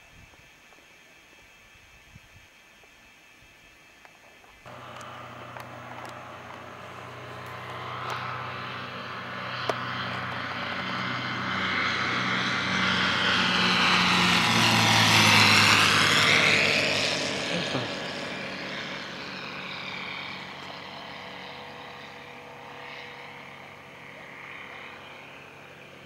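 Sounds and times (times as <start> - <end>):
propeller airplane engine droning: 4.7 - 26.0.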